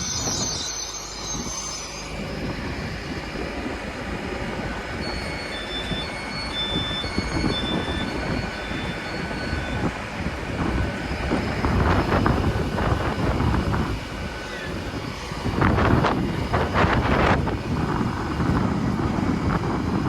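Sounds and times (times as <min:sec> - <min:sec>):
train diesel engines rumbling: 0:00.0 - 0:20.0
wind buffeting microphone: 0:00.0 - 0:20.0.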